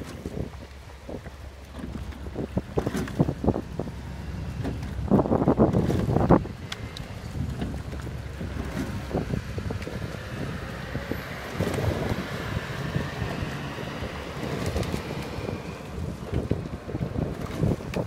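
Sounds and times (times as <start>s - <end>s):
oars knocking and splashing: 0.0s - 18.0s
wind buffeting microphone: 0.0s - 18.0s.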